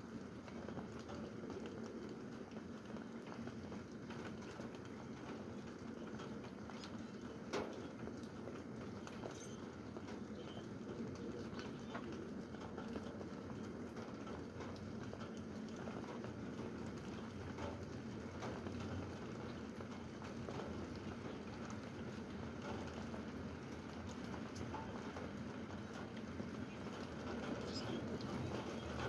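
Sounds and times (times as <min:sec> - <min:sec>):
steady rain falling: 0:00.0 - 0:29.0
scattered drips and taps: 0:00.4 - 0:29.0.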